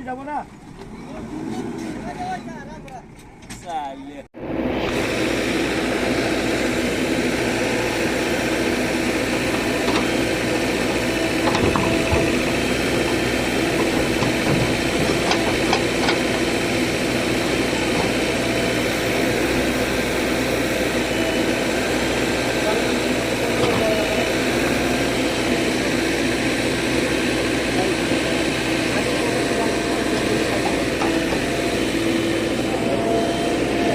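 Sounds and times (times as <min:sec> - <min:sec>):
heavy diesel engine running: 0:04.4 - 0:33.9.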